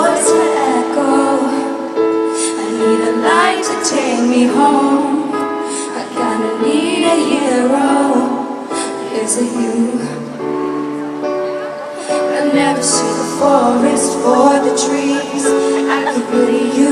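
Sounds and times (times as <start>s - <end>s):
woman singing a ballad: 0.0s - 10.6s, 12.0s - 16.9s
band or keyboard accompaniment: 0.0s - 16.9s.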